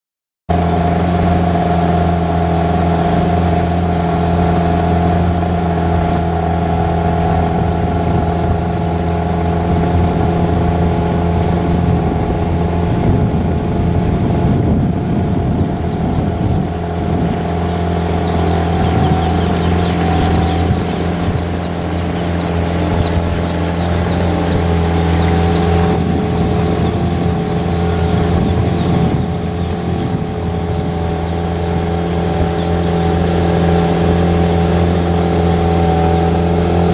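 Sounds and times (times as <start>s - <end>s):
boat motor running: 0.5s - 36.9s.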